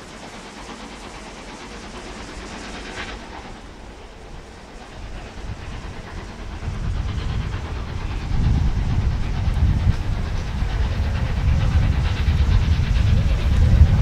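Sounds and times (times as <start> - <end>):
steam train rumbling: 0.0 - 14.0.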